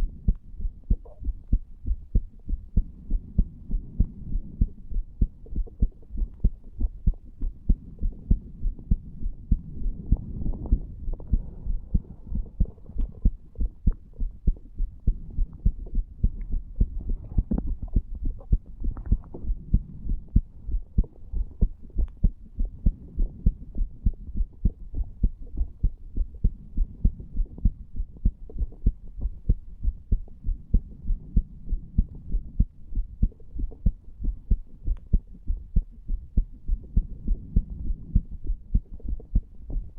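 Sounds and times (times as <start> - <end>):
faint low hum: 0.0 - 39.9
heartbeat thumps: 0.0 - 39.9.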